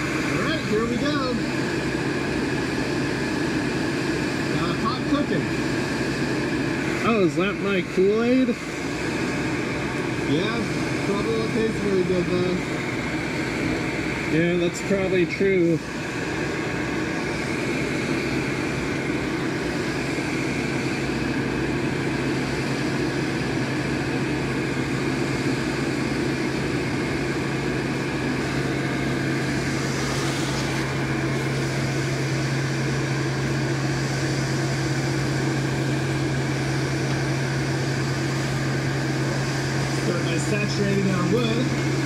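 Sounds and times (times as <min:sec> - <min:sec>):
fan running with low hum: 0:00.0 - 0:42.0.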